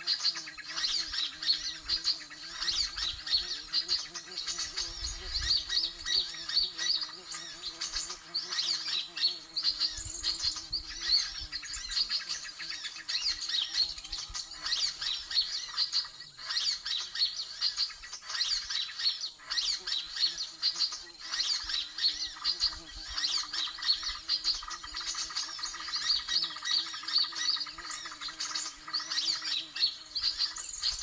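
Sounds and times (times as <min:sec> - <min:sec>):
many small birds chirping: 0:00.0 - 0:31.0.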